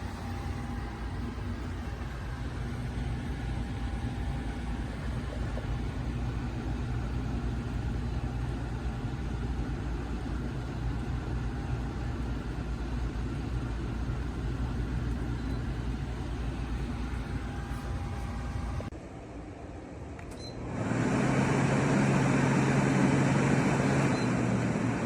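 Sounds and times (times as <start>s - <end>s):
air conditioner humming: 0.0s - 25.0s
faint steady whine: 0.0s - 25.0s.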